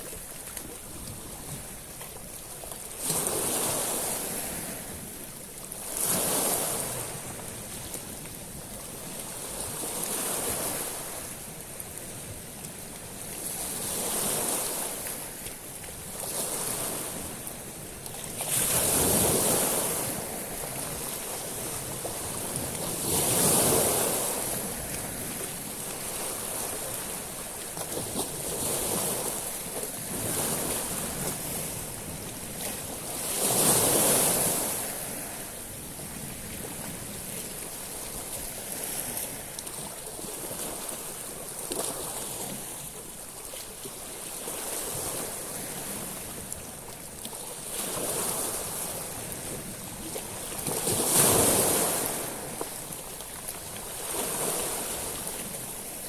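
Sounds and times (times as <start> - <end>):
waves washing over pebbles: 0.0 - 56.0.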